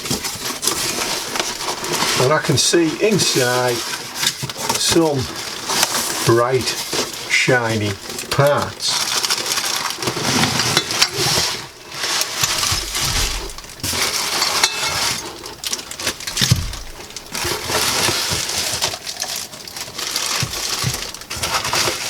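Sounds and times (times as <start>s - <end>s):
packaging rustling and crinkling: 0.0s - 22.0s.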